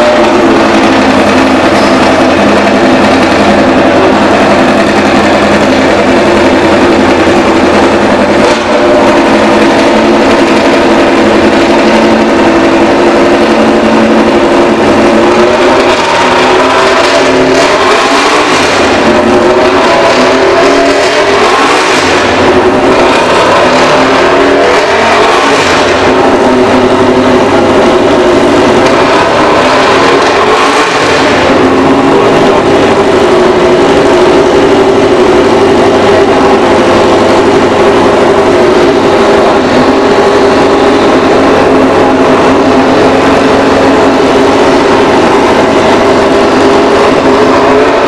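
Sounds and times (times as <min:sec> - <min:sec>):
motorcycle engine high idle revving: 0:00.0 - 0:48.0.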